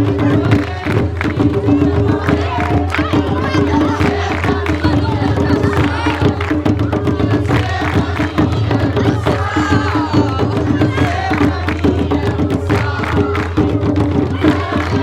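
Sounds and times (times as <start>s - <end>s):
group of voices singing: 0.0s - 15.0s
hand drums beating: 0.0s - 15.0s.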